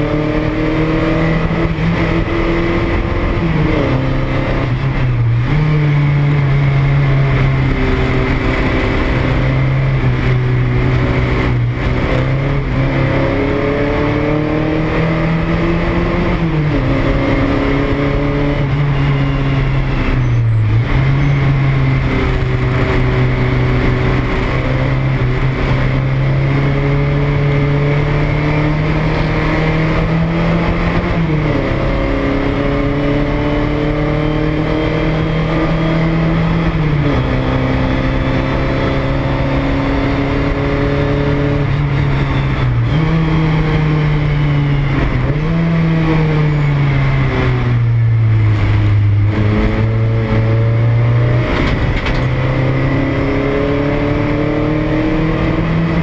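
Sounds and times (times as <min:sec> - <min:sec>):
race car engine under load: 0:00.0 - 0:56.0.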